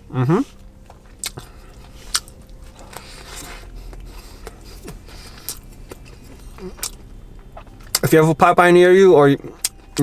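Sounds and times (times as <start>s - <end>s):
person chewing with crunching: 0.4s - 8.2s, 9.5s - 10.0s.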